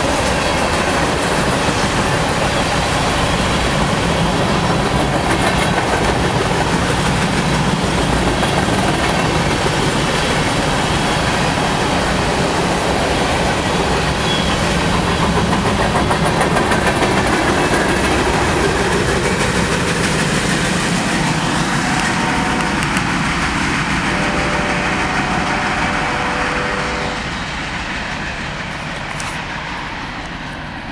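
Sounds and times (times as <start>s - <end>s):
freight train wheels clacking: 0.0s - 30.9s.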